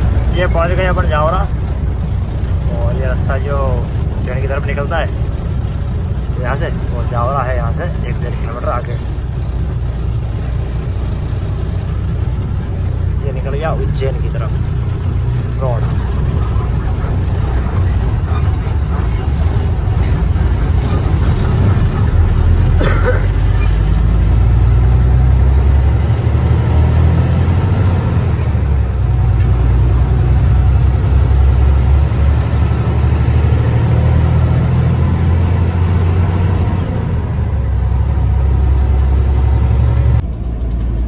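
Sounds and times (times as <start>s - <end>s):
road noise: 0.0s - 41.0s
truck diesel engine droning: 0.0s - 41.0s.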